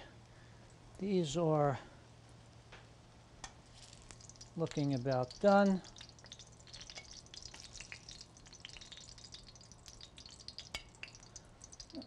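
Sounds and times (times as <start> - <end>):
eggplant sizzling in oil: 2.3 - 12.0.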